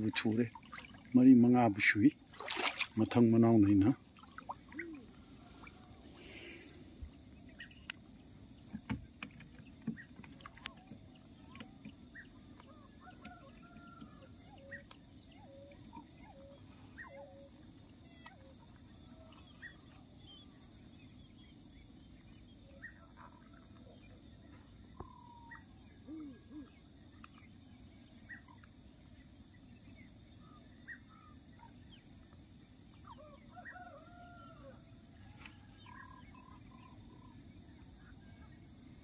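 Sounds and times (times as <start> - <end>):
distant bird calls: 0.0 - 32.2, 32.8 - 39.0.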